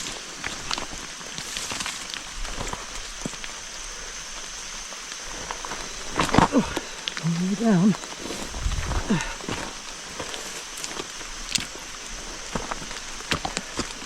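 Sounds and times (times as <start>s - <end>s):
rain pattering on leaves: 0.0s - 8.4s, 9.0s - 14.0s.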